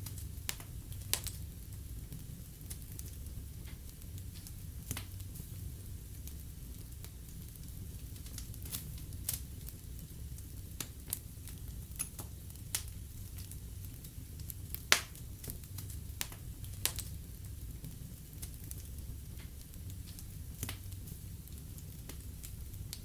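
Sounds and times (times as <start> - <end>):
fire crackling and popping: 0.0 - 23.0
flames rumbling: 0.0 - 23.0.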